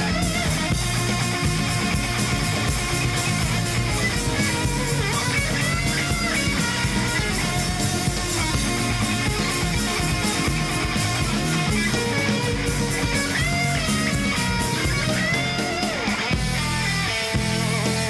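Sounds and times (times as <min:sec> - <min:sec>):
bass line: 0:00.0 - 0:18.0
busy drums: 0:00.0 - 0:18.0
lead line with bending notes: 0:00.0 - 0:18.0.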